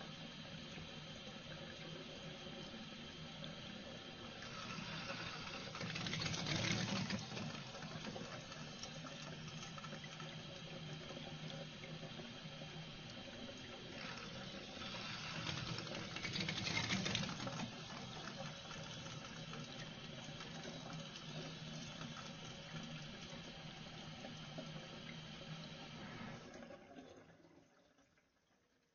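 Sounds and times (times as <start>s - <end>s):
faucet trickling water: 0.1s - 28.9s.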